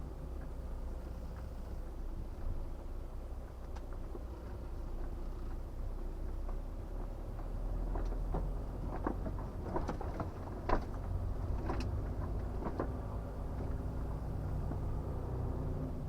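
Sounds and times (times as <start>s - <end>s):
diesel truck engine hum: 0.0s - 16.0s.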